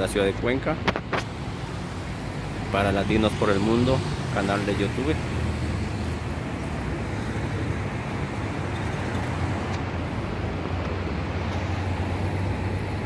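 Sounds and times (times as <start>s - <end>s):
city traffic hum: 0.0s - 13.0s.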